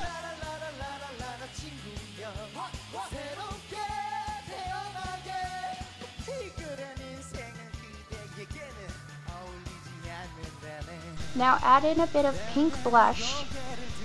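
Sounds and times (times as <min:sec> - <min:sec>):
pop song with singing: 0:00.0 - 0:14.0.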